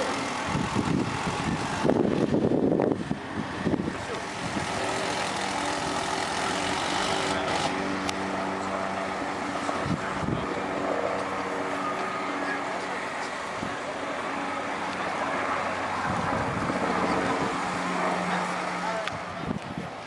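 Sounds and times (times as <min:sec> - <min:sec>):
machine hum with steady tones: 0:00.0 - 0:19.5
outdoor background noise: 0:00.0 - 0:20.0
rush of noise: 0:00.0 - 0:20.0.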